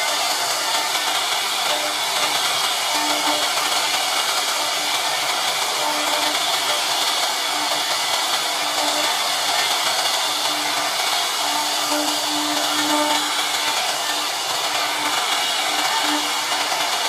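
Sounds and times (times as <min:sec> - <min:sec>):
router spindle high whir: 0:00.0 - 0:17.0.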